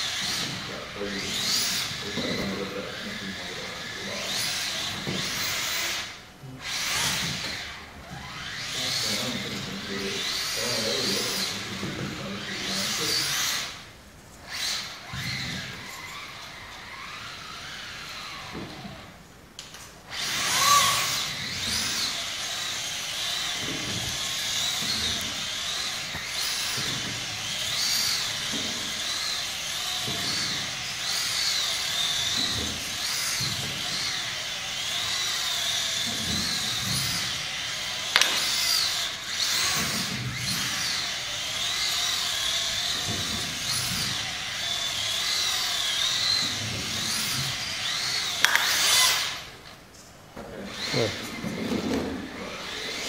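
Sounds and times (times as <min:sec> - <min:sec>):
electric motor whining: 0:00.0 - 0:49.7, 0:50.4 - 0:53.0.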